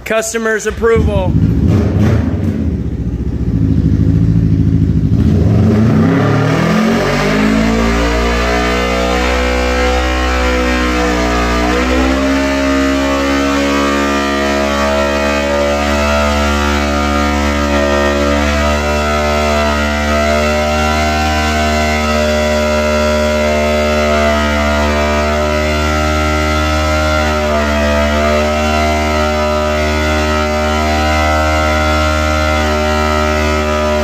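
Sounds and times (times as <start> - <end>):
motorcycle engine revving high: 0.7 - 34.0.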